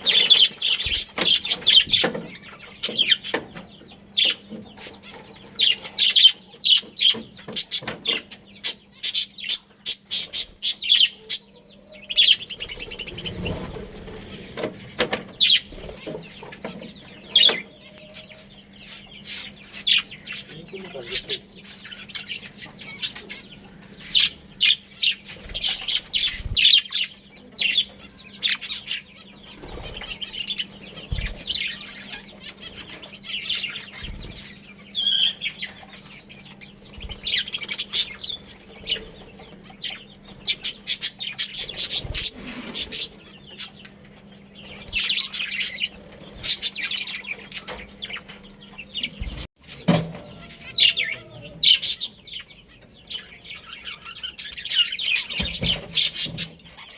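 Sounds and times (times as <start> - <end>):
budgerigars chirping: 0.0 - 49.5, 50.2 - 56.9.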